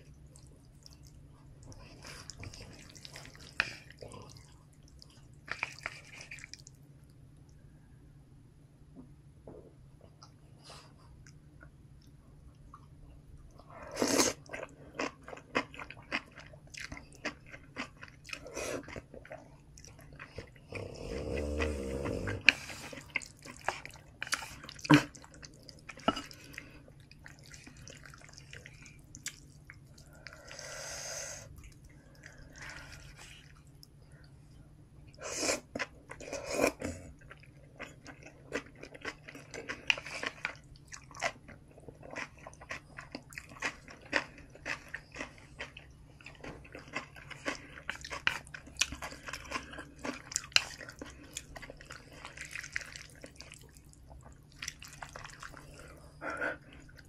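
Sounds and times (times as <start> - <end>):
close chewing of food: 0.0 - 6.9, 11.2 - 30.6, 31.4 - 34.3, 35.1 - 57.0.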